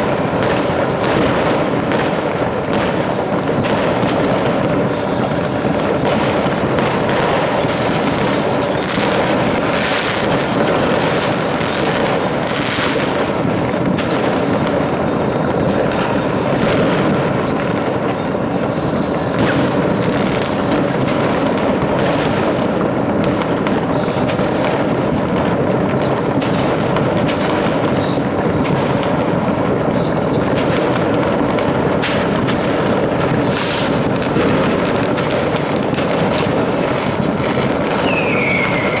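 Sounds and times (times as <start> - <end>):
fireworks and firecrackers banging: 0.0 - 39.0.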